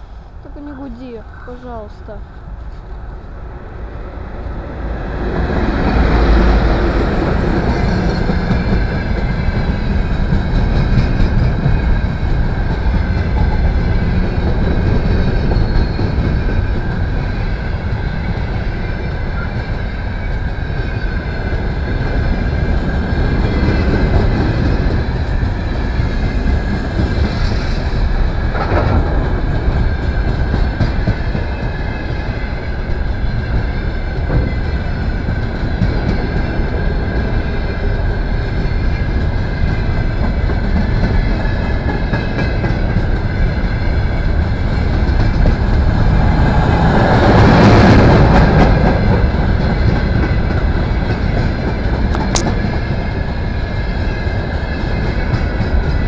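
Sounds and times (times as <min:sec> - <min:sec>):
electric locomotive passing: 0:00.0 - 0:56.0
freight train wheels rumbling: 0:00.0 - 0:56.0.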